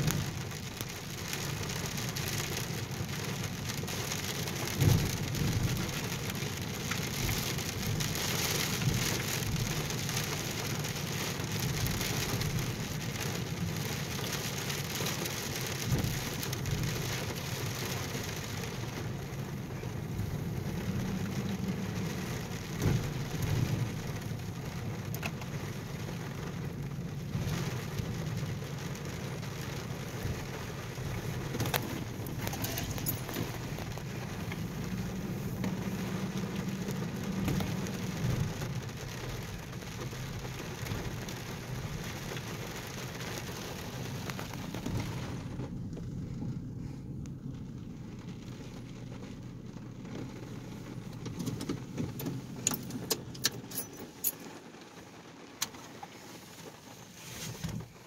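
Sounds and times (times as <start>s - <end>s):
low rumble of car driving: 0.0s - 58.0s
rain on car windshield and roof: 0.0s - 58.0s.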